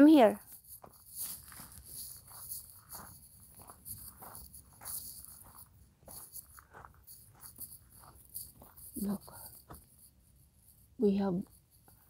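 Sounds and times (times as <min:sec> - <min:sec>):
footsteps crunching on gravel: 0:00.3 - 0:10.0
insects chirring: 0:00.4 - 0:12.0.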